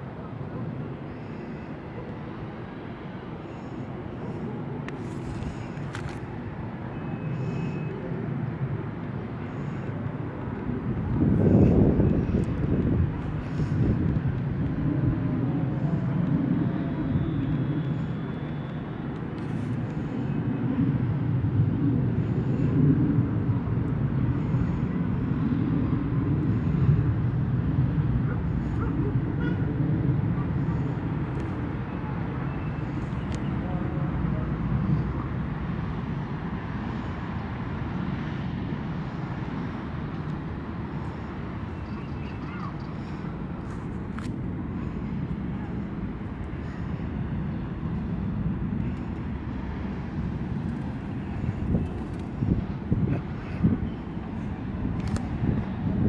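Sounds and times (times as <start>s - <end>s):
low city rumble: 0.0s - 56.0s.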